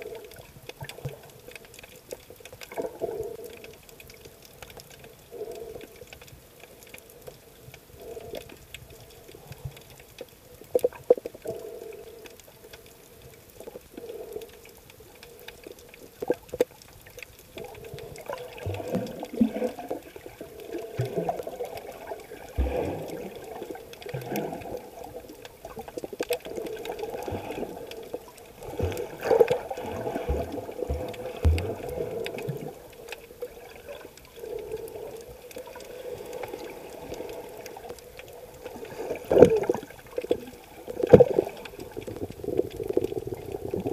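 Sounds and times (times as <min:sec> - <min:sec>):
muffled underwater water sloshing: 0:00.0 - 0:43.9
water bubbling: 0:00.0 - 0:43.9.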